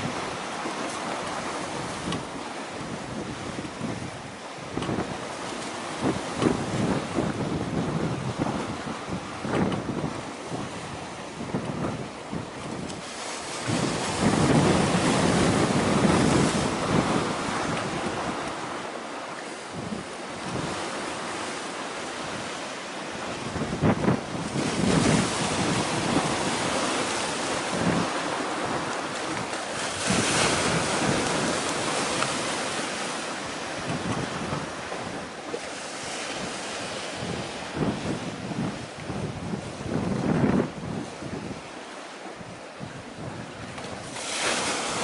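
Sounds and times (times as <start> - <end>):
choppy sea waves: 0.0 - 45.0
wind buffeting microphone: 0.0 - 45.0.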